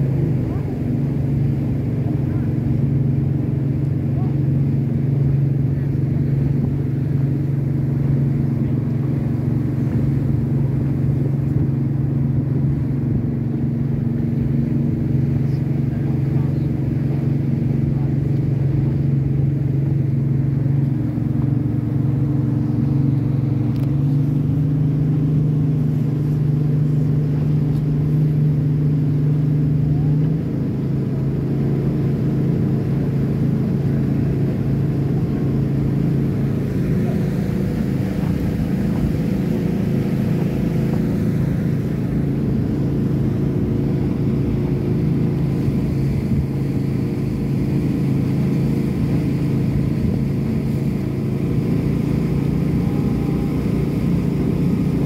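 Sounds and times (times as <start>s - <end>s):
boat engine running: 0.0s - 55.0s
hull rumbling on water: 0.0s - 55.0s.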